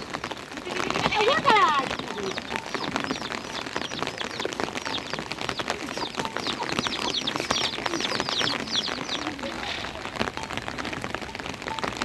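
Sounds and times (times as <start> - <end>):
rain pattering: 0.0 - 12.0
small birds chirping: 0.0 - 12.0.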